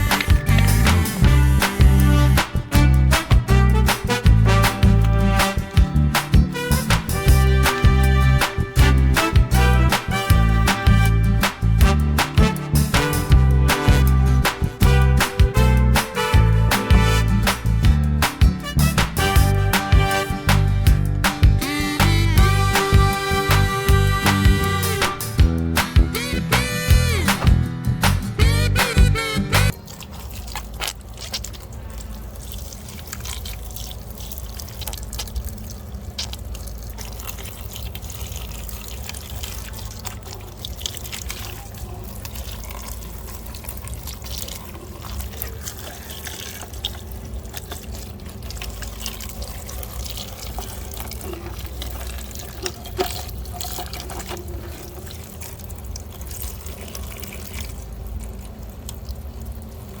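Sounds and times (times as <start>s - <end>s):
water running and splashing: 0.0s - 22.0s, 29.7s - 60.0s.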